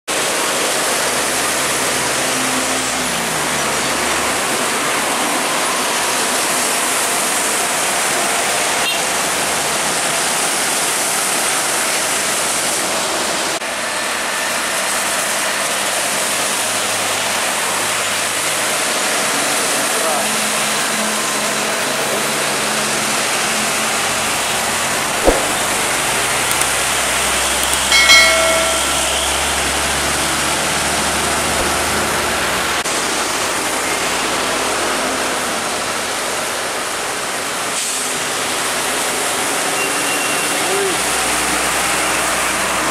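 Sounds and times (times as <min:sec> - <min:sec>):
tyres hissing on wet road: 0:00.1 - 0:24.1, 0:30.7 - 0:42.9.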